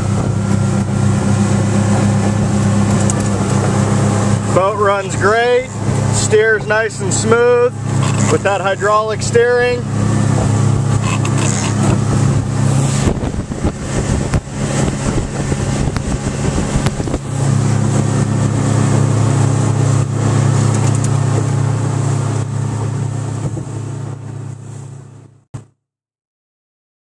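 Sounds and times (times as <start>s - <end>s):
outboard motor humming: 0.0s - 25.8s.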